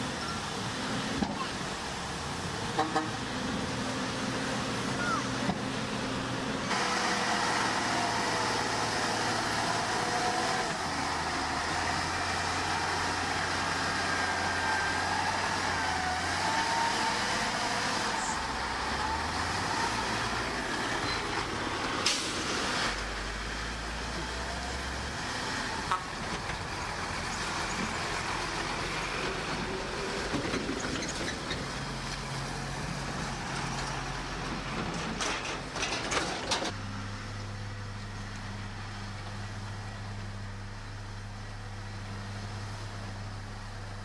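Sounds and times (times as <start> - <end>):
diesel machinery engine drone: 0.0 - 44.0.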